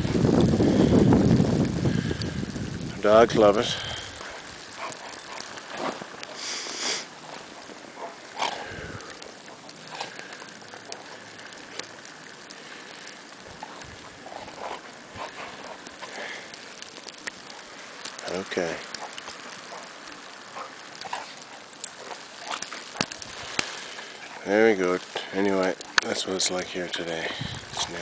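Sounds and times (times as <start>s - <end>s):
snowstorm wind hiss: 0.0s - 28.0s
dogs moving in snow: 3.0s - 28.0s
dogs snuffling: 3.5s - 26.4s.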